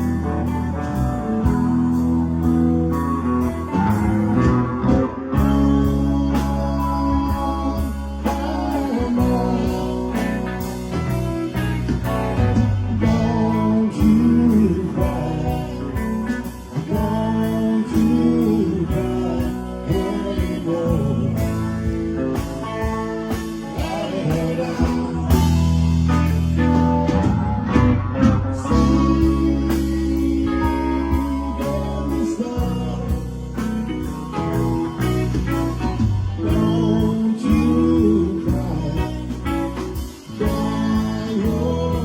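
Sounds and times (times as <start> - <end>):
bass guitar: 0.0 - 42.0
lead guitar: 0.0 - 42.0
steady drum beat: 0.0 - 42.0.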